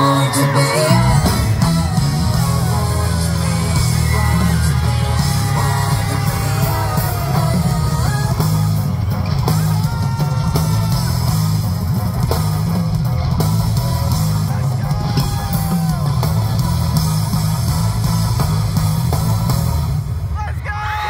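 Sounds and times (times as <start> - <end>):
deep sustained bass: 0.0 - 20.2
live rock band playing: 0.0 - 20.4
audience yelling: 0.0 - 21.0.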